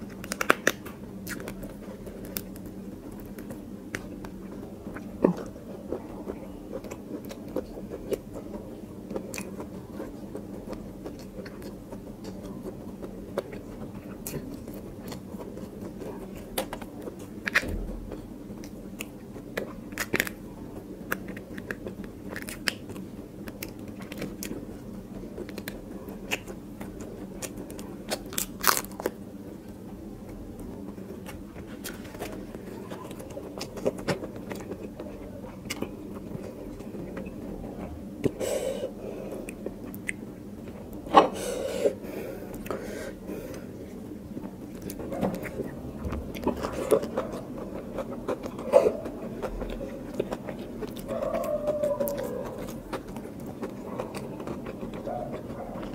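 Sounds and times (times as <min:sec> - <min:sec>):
wet chewing and mouth clicks: 0:00.0 - 0:29.2, 0:30.6 - 0:41.3, 0:43.5 - 0:55.9.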